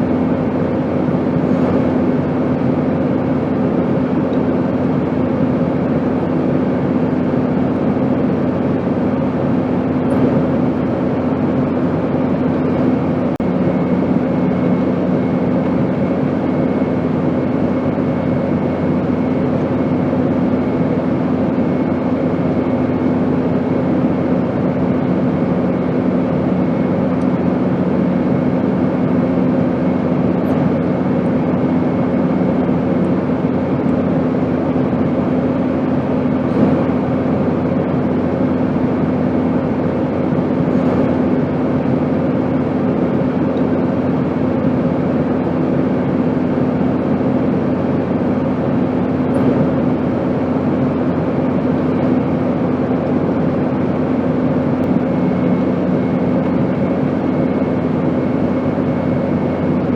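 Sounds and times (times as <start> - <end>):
airplane rushing drone: 0.0 - 59.9
low hum: 0.0 - 59.9.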